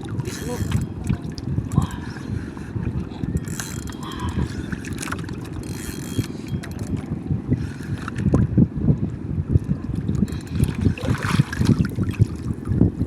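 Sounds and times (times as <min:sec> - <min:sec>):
water slapping boat hull: 0:00.0 - 0:08.6, 0:09.5 - 0:13.0
wind buffeting microphone: 0:00.0 - 0:13.0.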